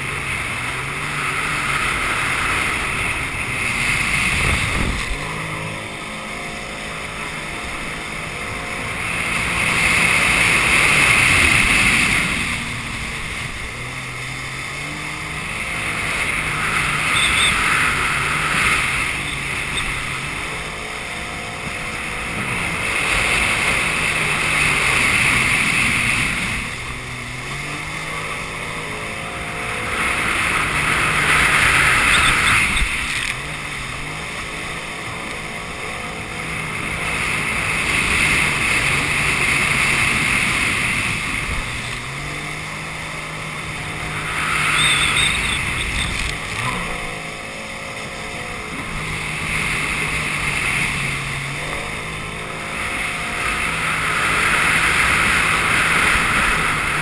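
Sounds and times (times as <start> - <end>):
jet ski engine running: 0.0 - 57.0
wind and water spray rushing: 0.0 - 57.0.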